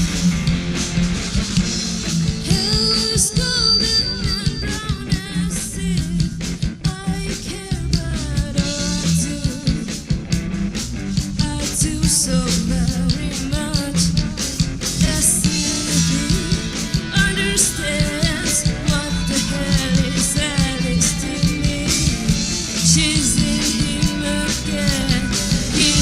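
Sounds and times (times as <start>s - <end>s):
rock band playing: 0.0s - 26.0s
person singing: 2.4s - 10.0s, 11.4s - 26.0s.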